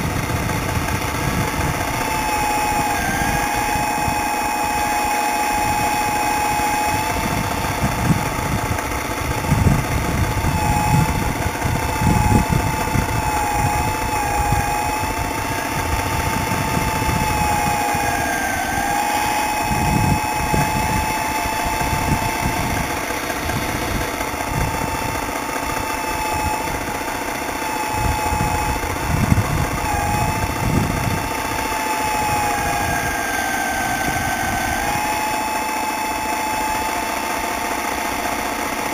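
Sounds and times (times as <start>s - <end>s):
hydraulic pump whining: 0.0s - 38.9s.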